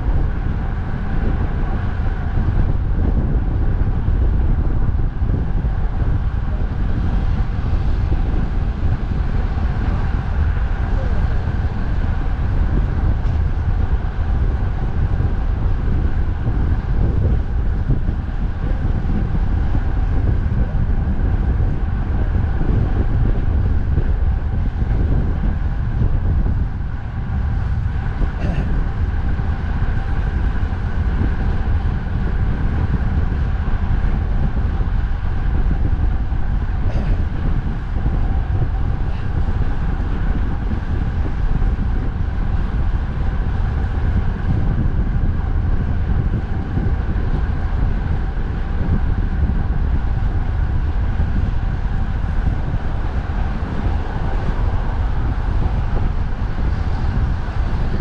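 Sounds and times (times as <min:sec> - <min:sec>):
wind buffeting microphone: 0:00.0 - 0:58.0
road traffic: 0:05.5 - 0:45.7, 0:49.9 - 0:58.0.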